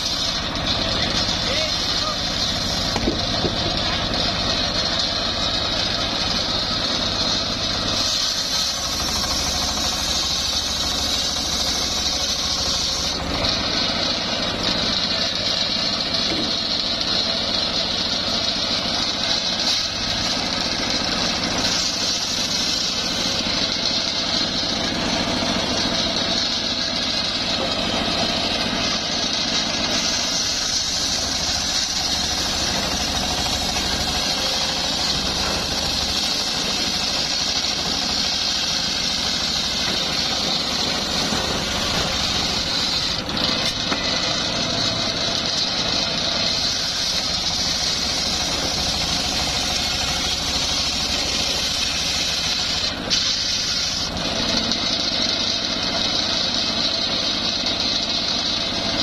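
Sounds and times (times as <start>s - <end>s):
engine drone: 0.0s - 59.0s
saw blade cutting wood: 0.0s - 59.0s.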